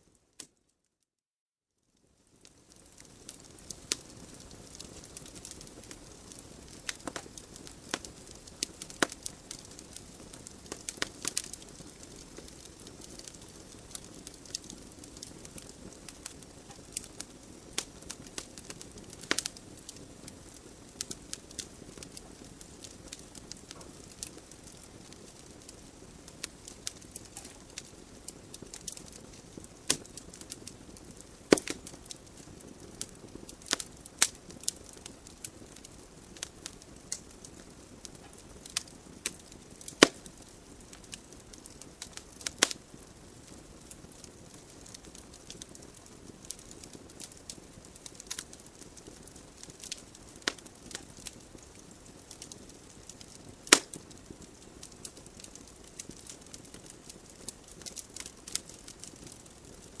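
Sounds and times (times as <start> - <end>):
logs crackling and popping: 2.2 - 60.0.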